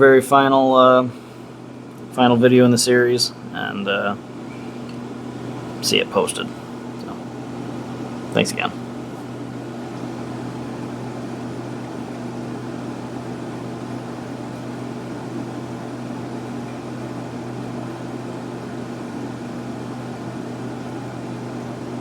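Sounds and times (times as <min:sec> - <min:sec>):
constant hiss: 0:00.0 - 0:22.0
low mechanical hum: 0:00.0 - 0:22.0.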